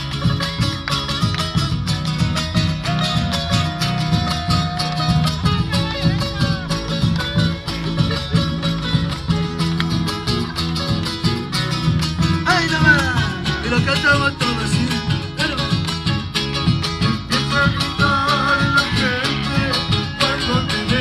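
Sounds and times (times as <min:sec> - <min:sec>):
bass drum steady beat: 0:00.0 - 0:21.0
folk band playing: 0:00.0 - 0:21.0
strummed guitars: 0:00.0 - 0:21.0.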